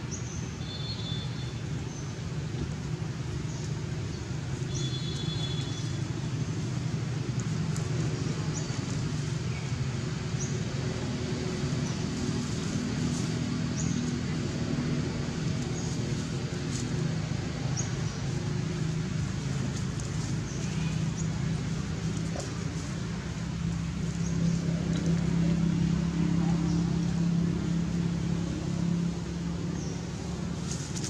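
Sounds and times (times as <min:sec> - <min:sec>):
low motor drone: 0:02.1 - 0:31.0.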